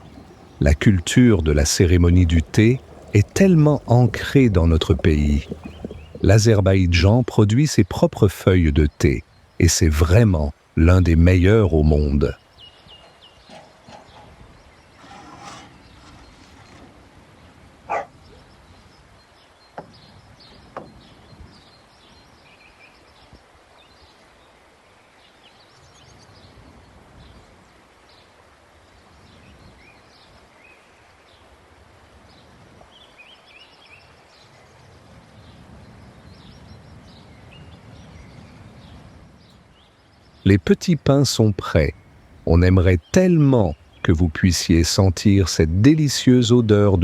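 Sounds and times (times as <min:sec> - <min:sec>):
faint birds chirping: 0:00.0 - 0:47.0.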